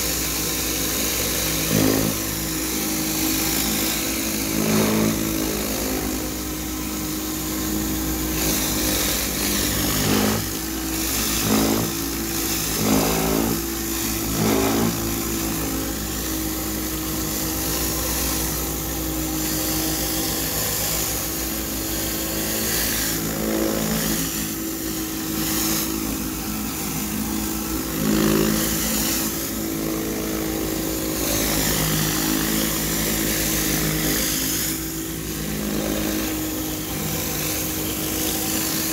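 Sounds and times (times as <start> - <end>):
pressure washer engine drone: 0.0 - 38.9
water spray hissing on concrete: 0.0 - 38.9.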